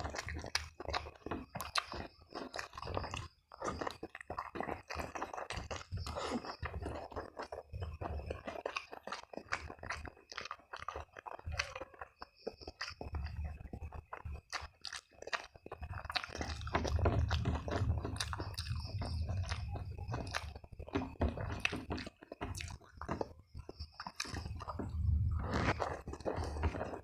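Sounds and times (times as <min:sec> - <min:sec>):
close chewing and crunching: 0:00.0 - 0:27.0.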